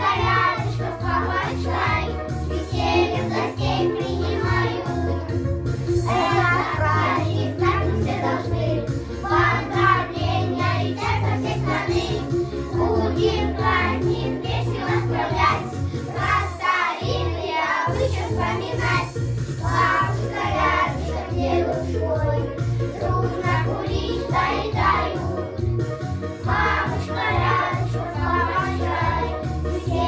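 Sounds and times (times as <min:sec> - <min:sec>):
backing track with pulsing bass: 0:00.0 - 0:17.4, 0:18.0 - 0:30.0
children singing: 0:00.0 - 0:25.7, 0:26.3 - 0:30.0.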